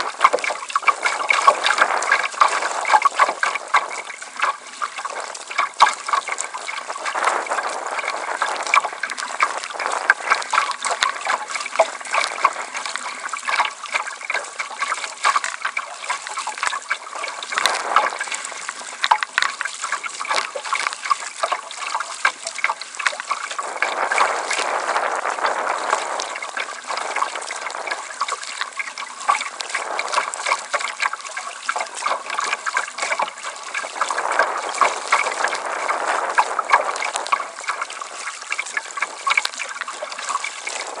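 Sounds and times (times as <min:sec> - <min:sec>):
water splashing against kayak: 0:00.0 - 0:41.0.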